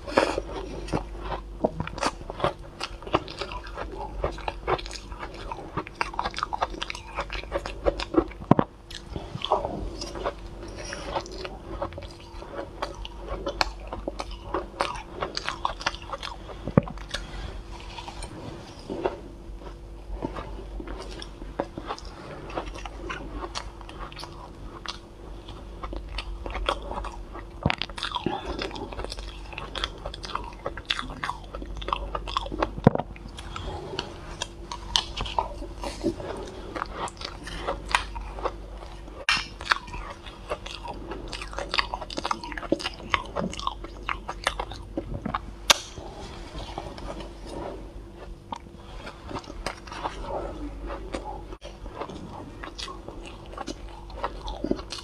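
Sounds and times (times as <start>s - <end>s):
chewing soft shaved ice: 0.0s - 55.0s.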